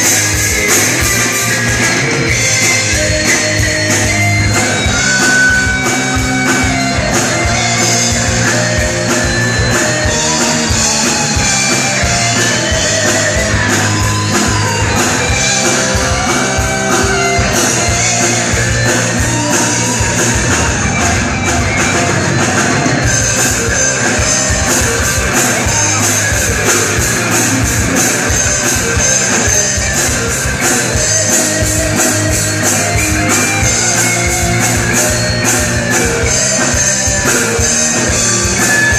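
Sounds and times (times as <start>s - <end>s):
bass guitar: 0.0s - 38.9s
distorted electric guitars: 0.0s - 38.9s
drum kit beat: 0.0s - 38.9s.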